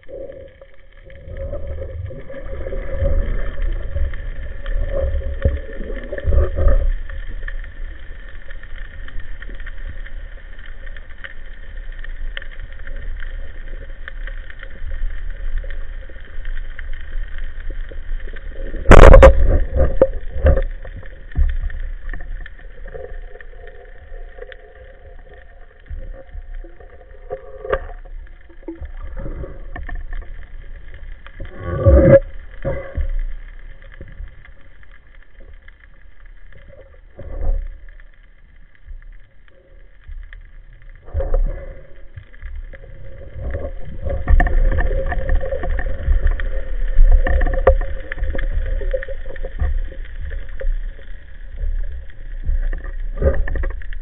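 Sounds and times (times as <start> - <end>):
faint steady hum: 0.0 - 54.0
muffled underwater rumbling: 0.0 - 54.0.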